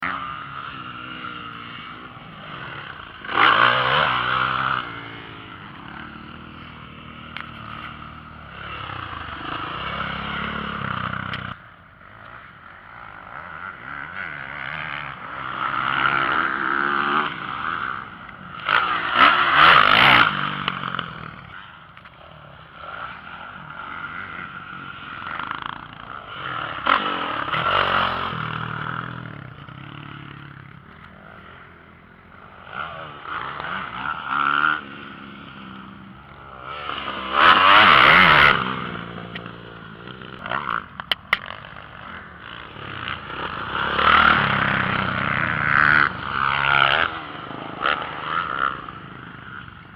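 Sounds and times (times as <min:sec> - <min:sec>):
motocross bikes revving: 0:00.0 - 0:49.9
motorbikes passing close: 0:00.0 - 0:49.9.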